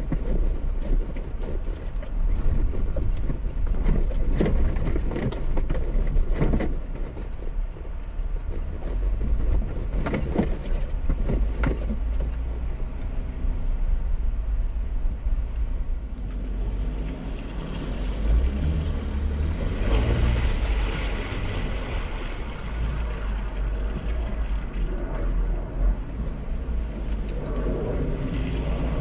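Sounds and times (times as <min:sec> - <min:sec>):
engine and road rumble: 0:00.0 - 0:29.0
knocks and rattles over bumps: 0:00.0 - 0:29.0
tyres rushing through mud: 0:00.0 - 0:29.0.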